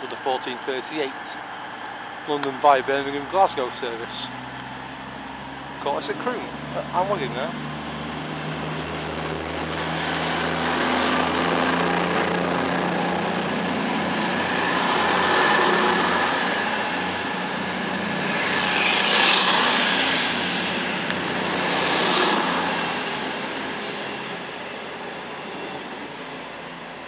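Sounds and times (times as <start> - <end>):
diesel train passing: 0.0 - 27.0.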